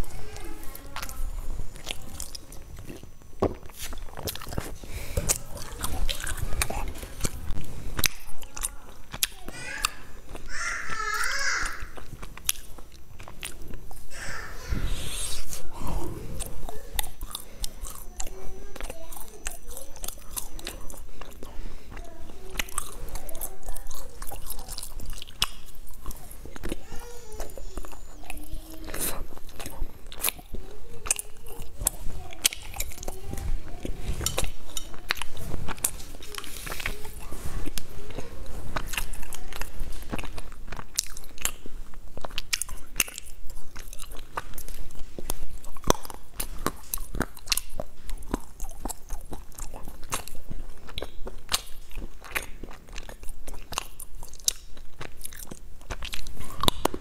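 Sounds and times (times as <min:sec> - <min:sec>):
crisp crunching bites and chewing: 0:00.0 - 0:14.2, 0:15.1 - 0:57.0.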